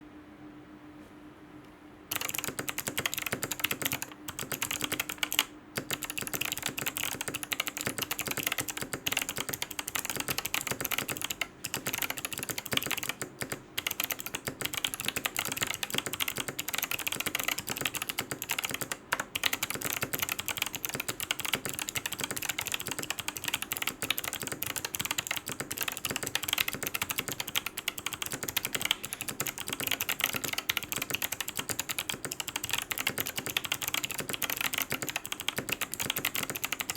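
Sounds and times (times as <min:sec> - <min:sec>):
fast mechanical keyboard typing: 0:02.1 - 0:36.9.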